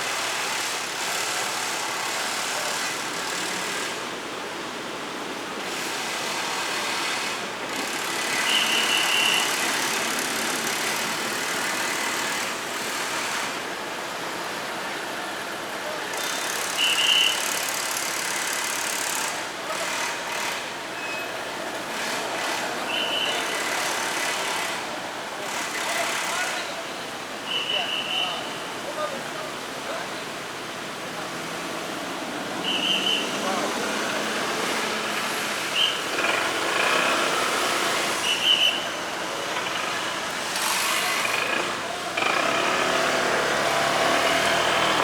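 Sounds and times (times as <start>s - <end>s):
wind and road noise: 0.0s - 45.0s.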